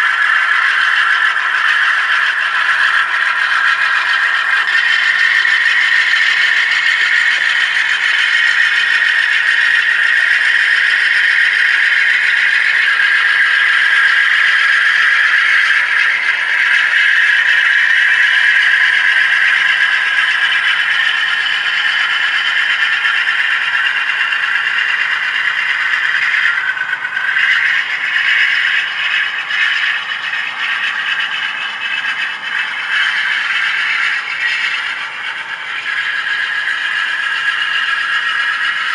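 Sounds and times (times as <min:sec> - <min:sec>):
model train wheels rattling on track: 0:00.0 - 0:38.9.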